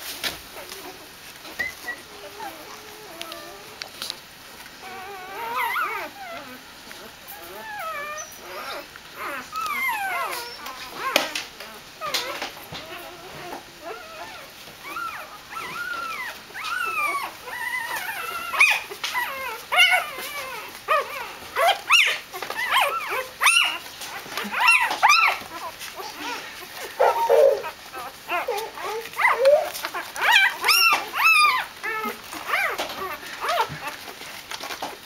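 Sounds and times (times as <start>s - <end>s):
puppies whimpering and squealing: 0.2s - 35.0s.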